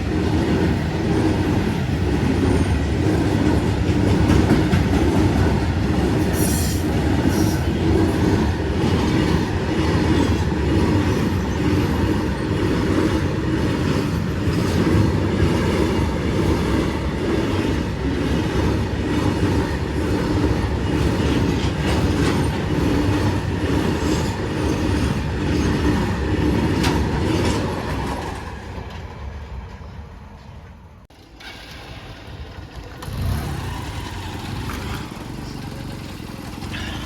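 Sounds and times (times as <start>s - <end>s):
freight train rolling past: 0.0s - 37.0s
wheels clicking over rail joints: 0.0s - 37.0s.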